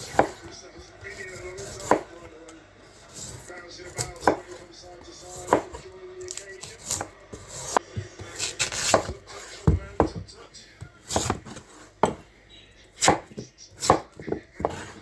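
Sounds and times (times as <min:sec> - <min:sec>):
knife chopping on cutting board: 0:00.0 - 0:12.3, 0:12.9 - 0:15.0.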